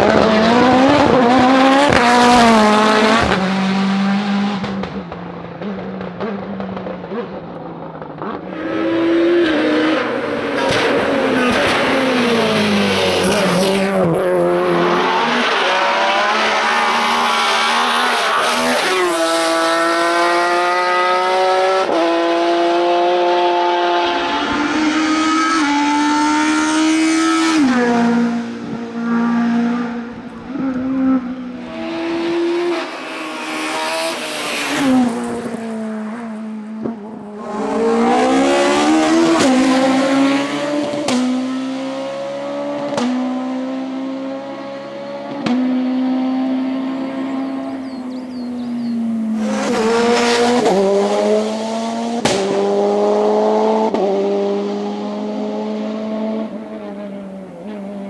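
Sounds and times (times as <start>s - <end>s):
car accelerating through gears: 0.0s - 58.0s
race car engines revving: 0.0s - 58.0s.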